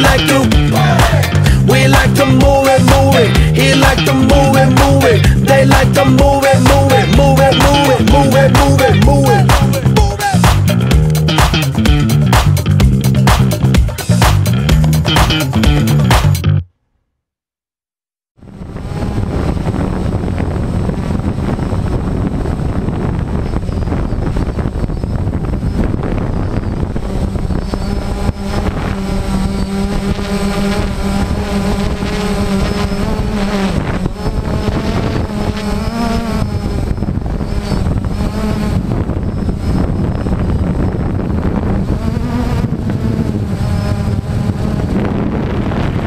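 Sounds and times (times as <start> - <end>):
drone propellers buzzing: 0.0 - 16.4, 18.4 - 46.0.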